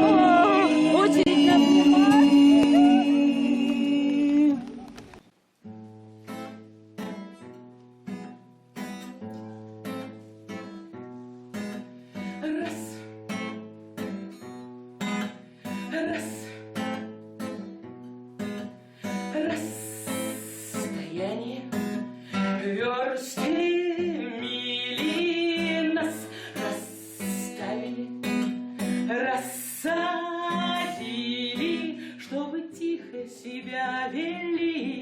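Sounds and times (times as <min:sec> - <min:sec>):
strummed and plucked guitar: 0:00.0 - 0:35.0.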